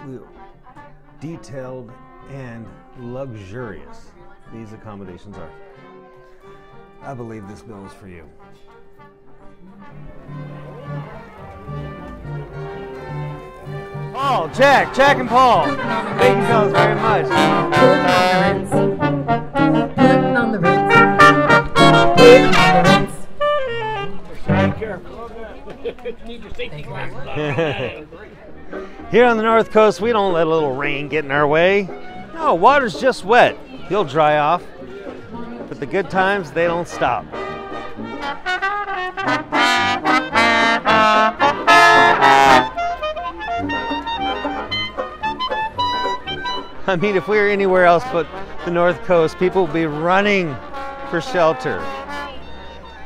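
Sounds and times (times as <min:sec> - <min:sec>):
dixieland jazz band playing: 0:00.0 - 0:25.4, 0:28.5 - 0:53.0.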